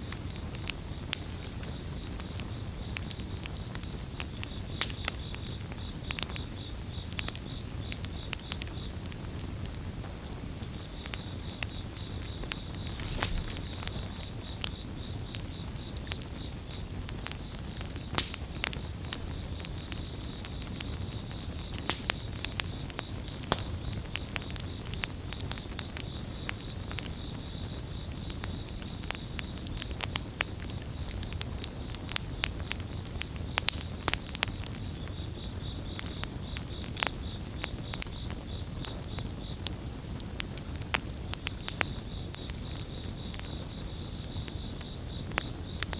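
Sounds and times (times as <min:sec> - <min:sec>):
campfire crackling and popping: 0:00.0 - 0:45.9
crickets trilling: 0:00.0 - 0:45.9.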